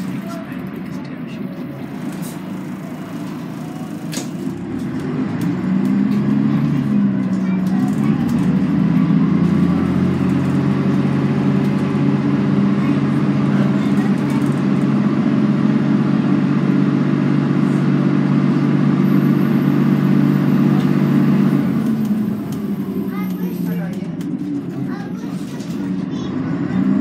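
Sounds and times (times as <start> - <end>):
bus diesel engine droning: 0.0 - 27.0
road noise: 0.0 - 27.0.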